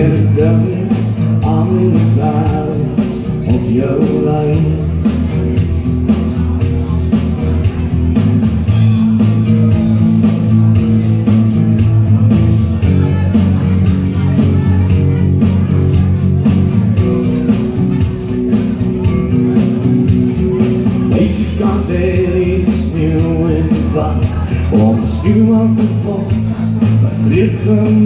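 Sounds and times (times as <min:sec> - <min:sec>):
instrumental backing track music: 0:00.0 - 0:28.0.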